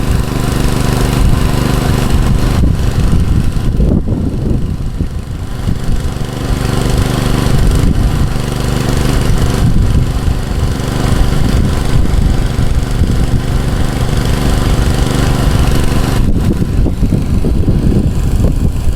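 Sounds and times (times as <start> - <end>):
petrol engine running: 0.0 - 18.9.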